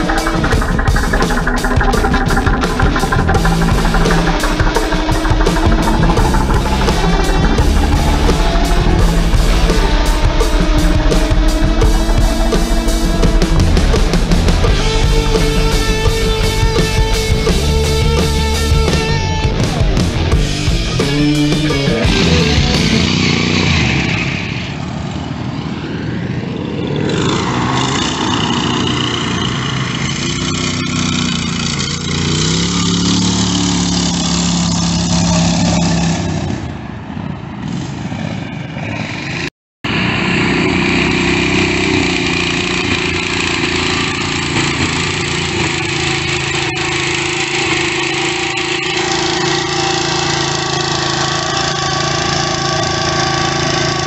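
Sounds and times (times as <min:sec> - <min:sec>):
lawn mower engines revving: 0:00.0 - 0:54.0.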